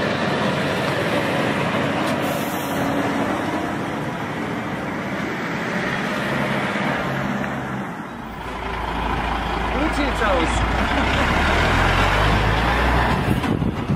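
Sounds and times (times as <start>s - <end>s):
vehicle driving past: 0.0s - 13.6s.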